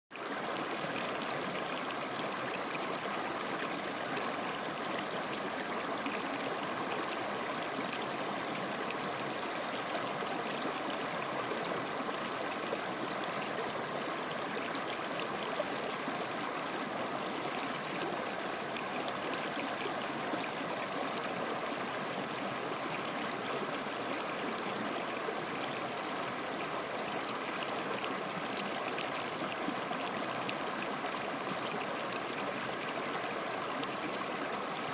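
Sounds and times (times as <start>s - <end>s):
river flowing over rocks: 0.2s - 34.9s.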